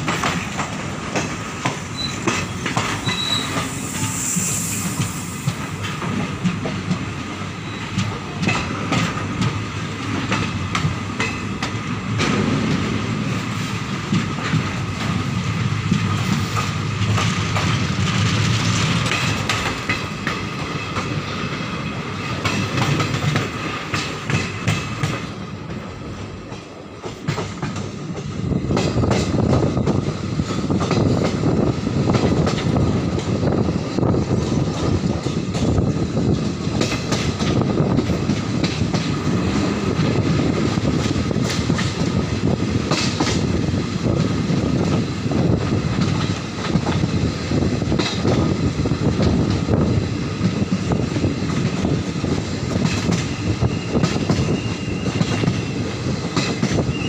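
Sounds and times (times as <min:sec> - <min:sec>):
clacks over rail joints: 0:00.0 - 0:03.8, 0:05.4 - 0:57.0
train wheels rumbling on rails: 0:00.0 - 0:57.0.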